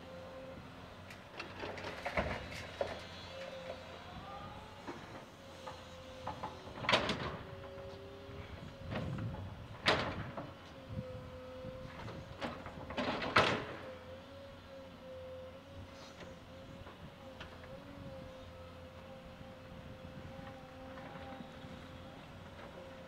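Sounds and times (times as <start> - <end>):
excavator engine and hydraulics whine: 0.0 - 23.0.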